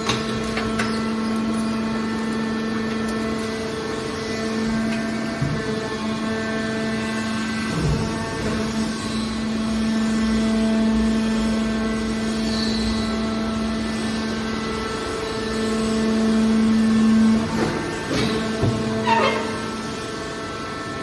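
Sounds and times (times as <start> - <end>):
hydraulic baler motor humming: 0.0 - 21.0.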